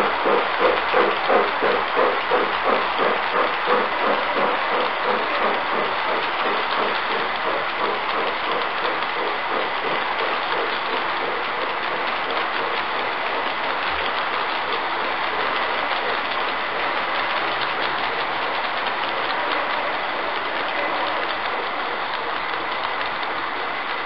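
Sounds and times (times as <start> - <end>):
model train wheels clicking: 0.0 - 24.0.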